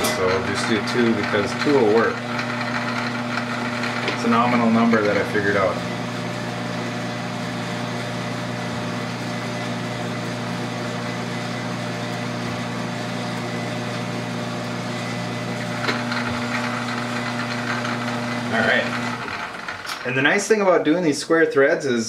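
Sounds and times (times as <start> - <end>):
metal lathe humming: 0.0 - 20.9.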